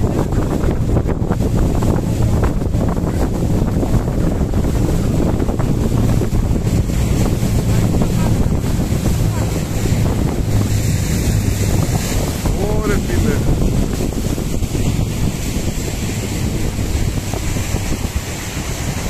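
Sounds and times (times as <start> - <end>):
outboard engine humming: 0.0 - 19.0
sea against hull: 0.0 - 19.0
wind buffeting microphone: 0.0 - 19.0.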